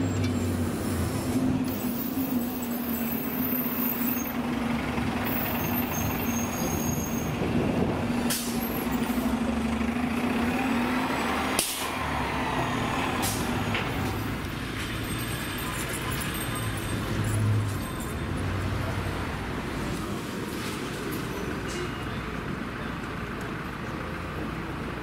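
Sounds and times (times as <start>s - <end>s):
street traffic hum: 0.0s - 25.0s.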